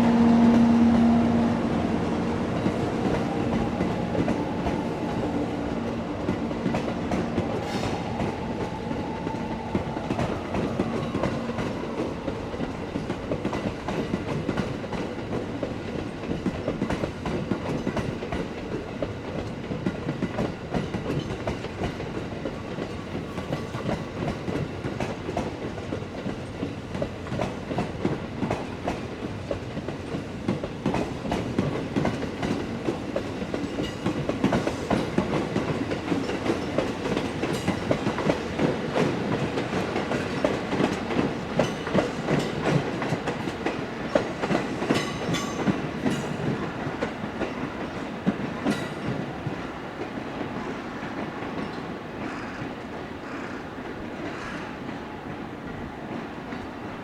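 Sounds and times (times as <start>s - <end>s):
train wheels clacking over rail joints: 2.6s - 56.7s.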